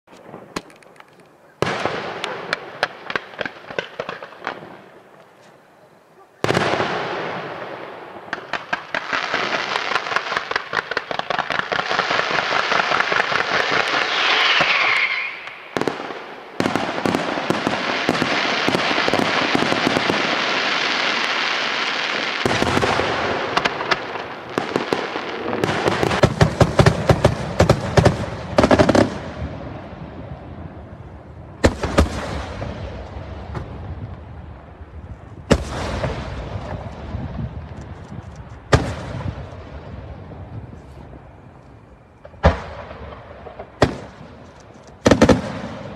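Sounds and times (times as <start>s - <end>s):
fireworks bangs: 0.1s - 5.5s, 6.4s - 41.5s, 42.2s - 45.9s
fireworks crackling and popping: 0.1s - 5.5s, 6.4s - 45.9s.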